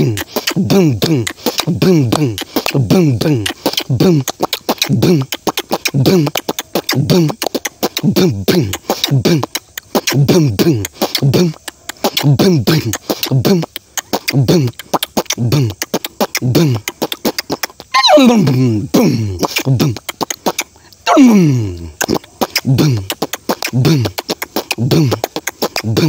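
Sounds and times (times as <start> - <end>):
man imitating a drum with mouth: 0.0 - 26.0
sharp mouth clicks: 0.0 - 26.0.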